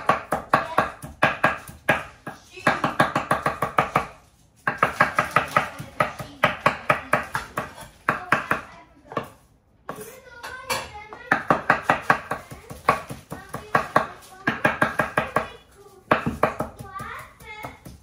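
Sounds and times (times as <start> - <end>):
knife chopping on cutting board: 0.0 - 10.0, 11.3 - 18.0.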